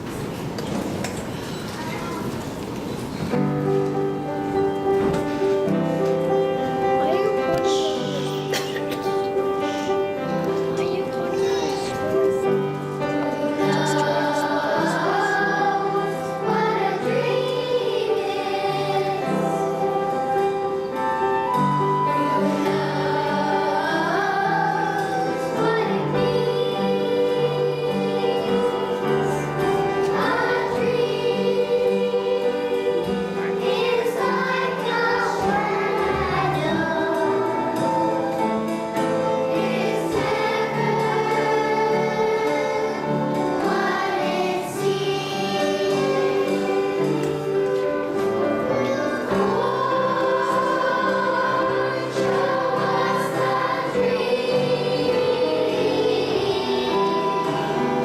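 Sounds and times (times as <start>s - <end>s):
instrumental accompaniment: 3.2s - 58.0s
choir singing: 3.4s - 58.0s.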